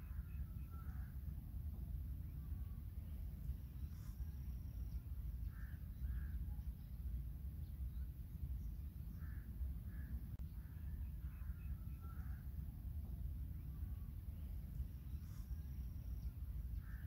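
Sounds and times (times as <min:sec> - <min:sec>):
distant bird calling: 0:00.0 - 0:17.0
steady low rumble: 0:00.0 - 0:17.0.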